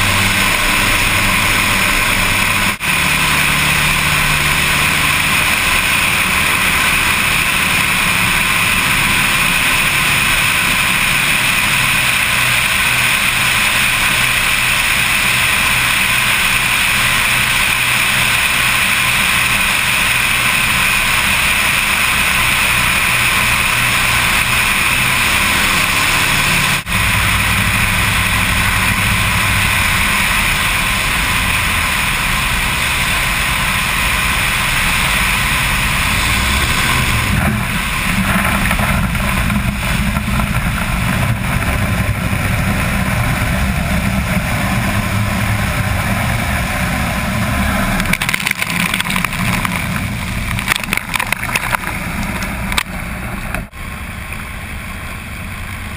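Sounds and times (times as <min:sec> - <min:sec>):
water spray splashing: 0:00.0 - 0:46.6, 0:47.2 - 0:53.6
aircraft engines running: 0:00.0 - 0:55.9.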